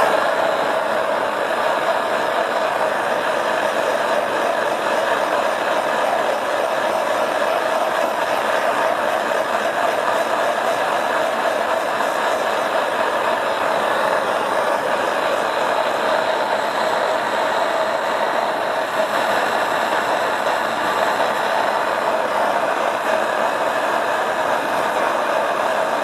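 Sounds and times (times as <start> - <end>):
propane torch hissing: 0.0 - 26.0.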